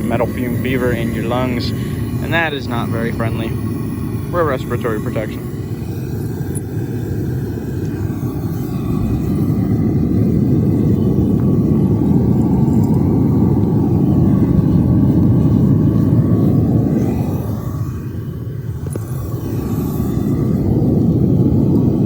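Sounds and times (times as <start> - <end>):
furnace burner rumbling: 0.0 - 22.0.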